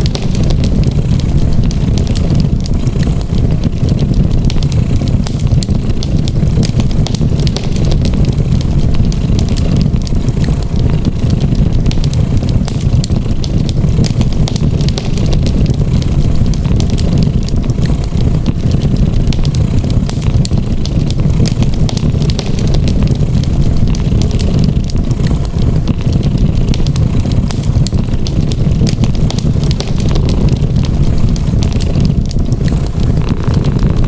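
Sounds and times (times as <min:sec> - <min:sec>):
cat purring: 0:00.0 - 0:34.0
wood fire crackling: 0:00.0 - 0:34.0.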